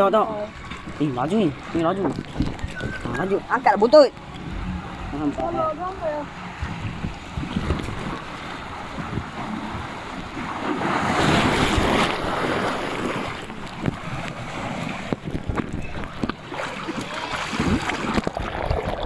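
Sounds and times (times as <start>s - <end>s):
water sloshing: 0.0s - 19.0s
water rushing down slide: 2.3s - 19.0s.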